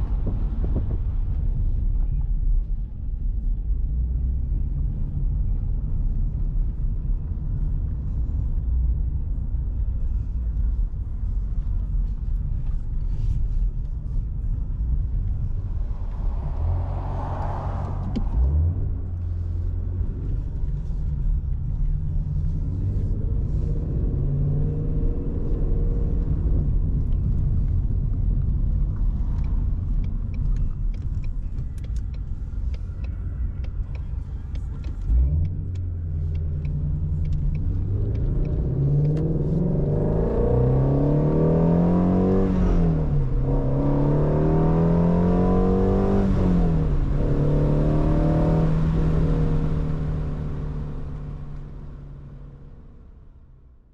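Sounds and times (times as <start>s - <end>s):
car engine rumbling while driving: 0.0s - 53.9s.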